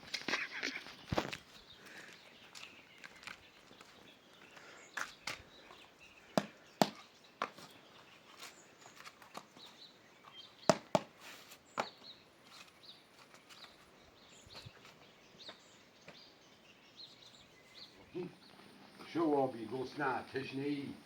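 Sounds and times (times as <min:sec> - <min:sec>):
faint outdoor background: 0:00.0 - 0:21.0.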